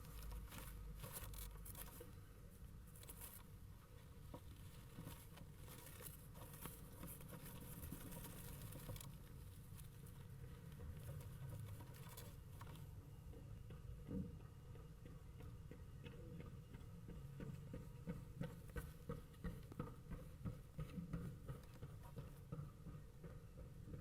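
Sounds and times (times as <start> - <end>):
faint scratching and pattering: 0.0 - 14.4, 15.0 - 24.0.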